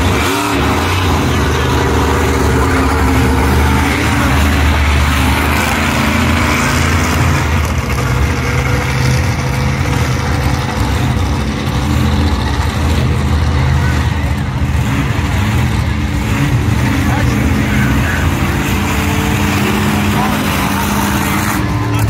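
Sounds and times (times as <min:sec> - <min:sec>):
monster truck engines running: 0:00.0 - 0:22.0.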